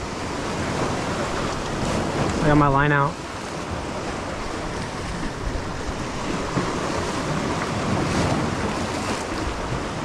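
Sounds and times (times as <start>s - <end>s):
surf washing against rocks: 0.0s - 10.0s
wind buffeting microphone: 0.0s - 10.0s.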